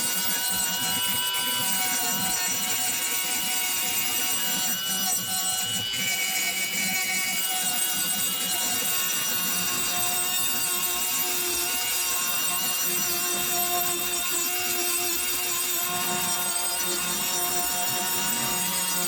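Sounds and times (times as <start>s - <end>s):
power tool grinding metal: 0.0s - 19.0s.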